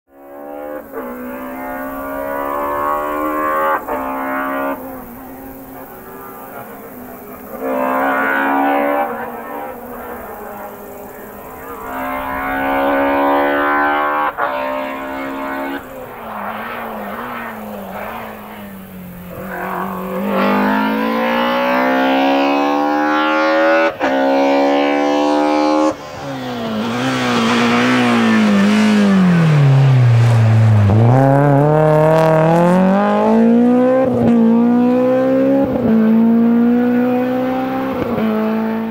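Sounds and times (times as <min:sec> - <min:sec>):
car engine at full throttle: 0:00.1 - 0:38.9.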